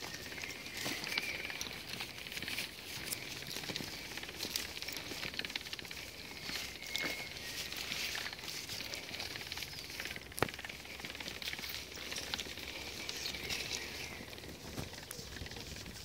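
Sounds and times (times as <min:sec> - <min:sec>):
pram wheels crunching on grit: 0:00.0 - 0:16.0.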